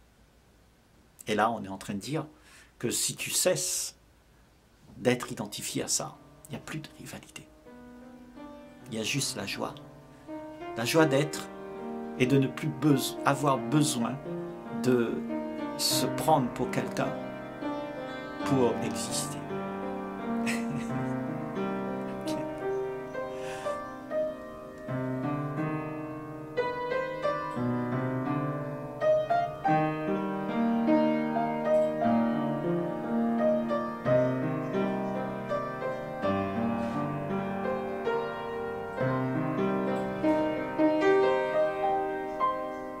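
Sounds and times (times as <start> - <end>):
piano music: 6.1 - 43.0.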